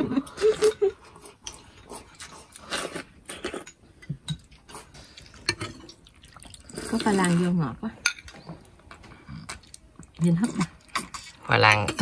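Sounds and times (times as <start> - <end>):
food being chewed: 0.3 - 7.6, 8.2 - 12.0.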